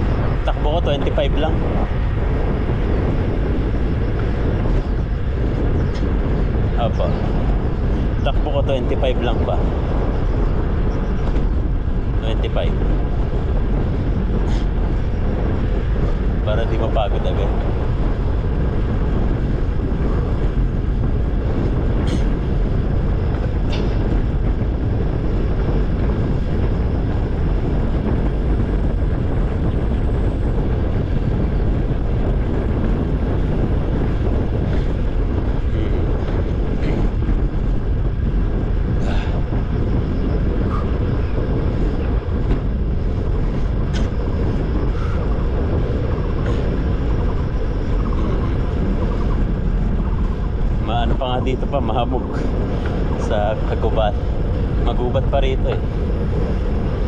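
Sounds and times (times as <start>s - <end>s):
bicycle tyre noise: 0.0s - 57.0s
wind on microphone: 0.0s - 57.0s.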